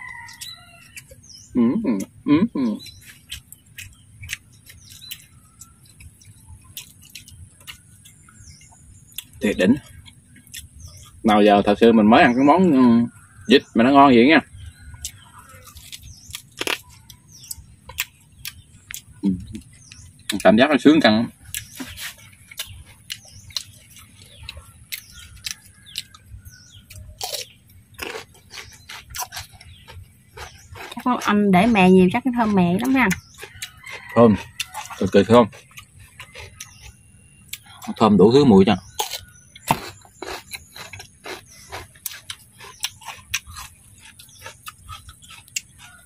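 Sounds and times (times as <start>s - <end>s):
crunching while eating: 0.0s - 11.5s, 14.4s - 46.0s
small birds chirping: 0.0s - 46.0s.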